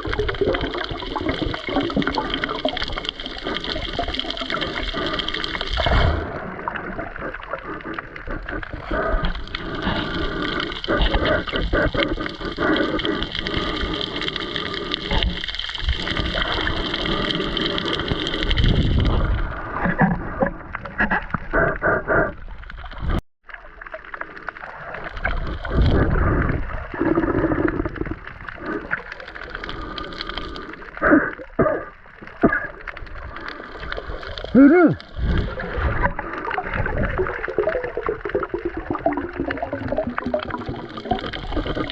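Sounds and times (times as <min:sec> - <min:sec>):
water gurgling and sloshing: 0:00.0 - 0:41.9.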